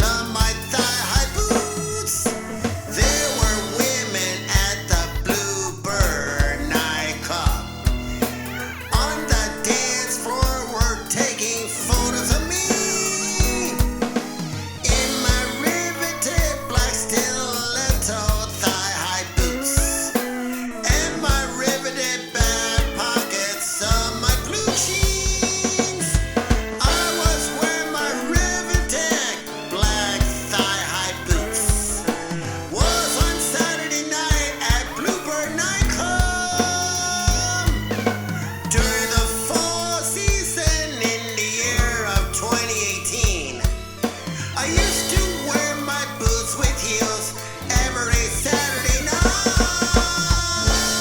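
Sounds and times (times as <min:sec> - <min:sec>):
song with drum beat: 0:00.0 - 0:51.0.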